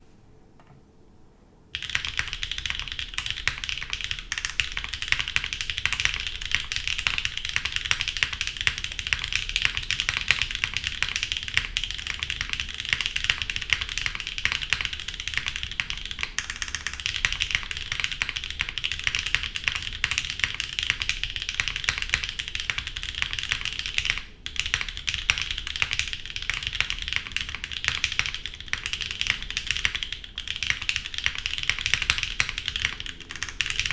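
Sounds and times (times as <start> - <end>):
mechanical keyboard typing: 1.8 - 33.9.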